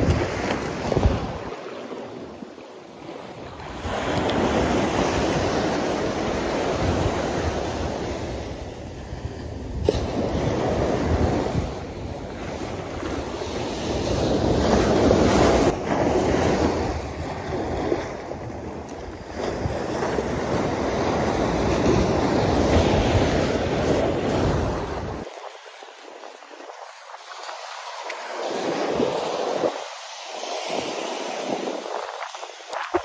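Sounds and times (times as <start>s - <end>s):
wind buffeting microphone: 0.0s - 2.3s, 3.2s - 30.0s, 30.6s - 33.0s
surf breaking on beach: 0.0s - 33.0s.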